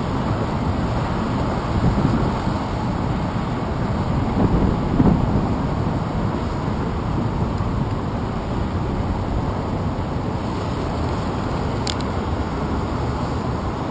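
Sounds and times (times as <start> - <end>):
road traffic rumble: 0.0 - 13.9
wind on microphone: 0.0 - 13.9.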